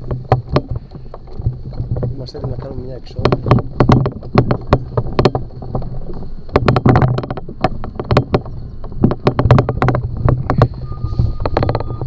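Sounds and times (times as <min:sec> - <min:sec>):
steady low hum: 0:00.0 - 0:12.0
trailer rattling over paving: 0:00.0 - 0:12.0.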